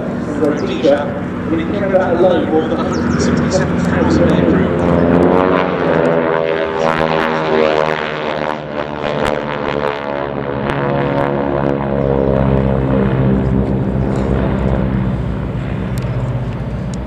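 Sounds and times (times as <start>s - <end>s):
propeller planes droning past: 0.0s - 17.0s.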